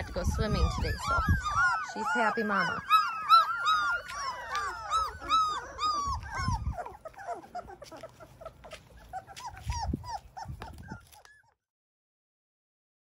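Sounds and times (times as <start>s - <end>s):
puppies whimpering and squealing: 0.0s - 11.6s.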